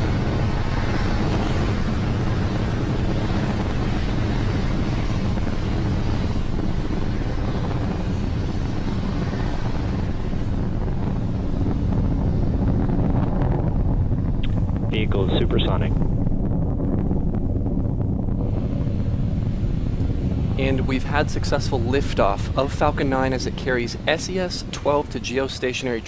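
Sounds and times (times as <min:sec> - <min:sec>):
rocket engines rumbling: 0:00.0 - 0:26.0.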